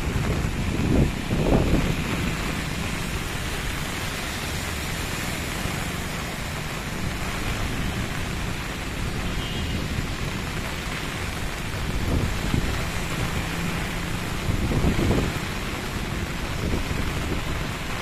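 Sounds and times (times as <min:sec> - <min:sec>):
heavy rain on standing water: 0:00.0 - 0:18.0.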